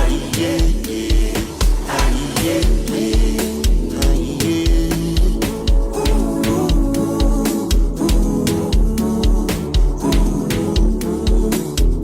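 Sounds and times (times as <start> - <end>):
instrumental music with heavy bass: 0.0 - 12.0.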